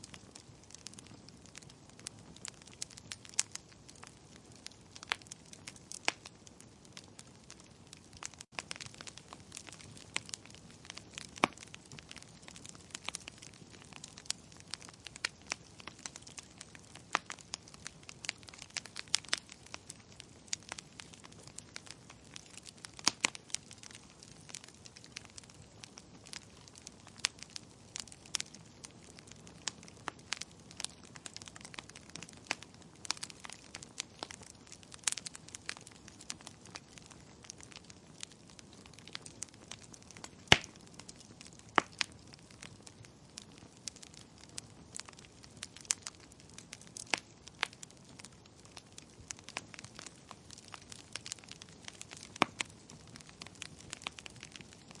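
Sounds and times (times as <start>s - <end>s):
burning logs crackling: 0.0s - 55.0s.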